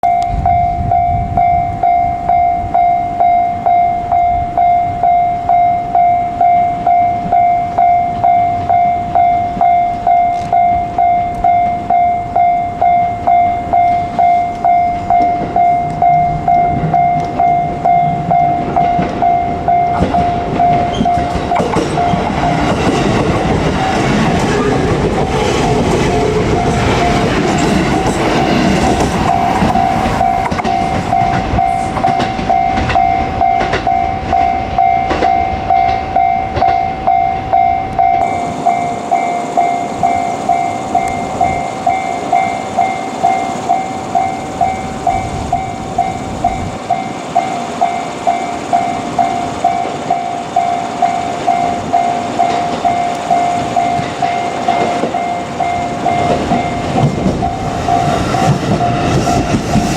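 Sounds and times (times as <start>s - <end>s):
level crossing warning bell: 0.0s - 59.9s
train passing: 0.0s - 59.9s.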